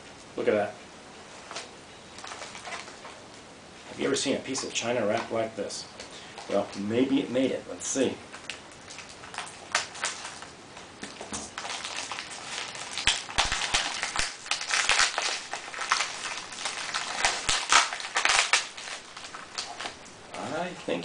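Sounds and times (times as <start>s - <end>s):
wrapping crackling and peeling: 1.4s - 21.0s.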